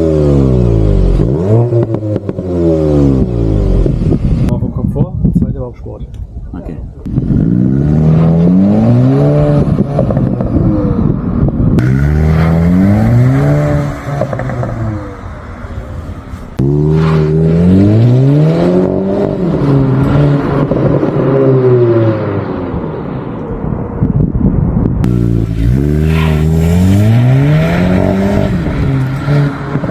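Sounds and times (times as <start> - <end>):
car engine revving: 0.0 - 4.5, 7.0 - 22.8, 25.0 - 29.9.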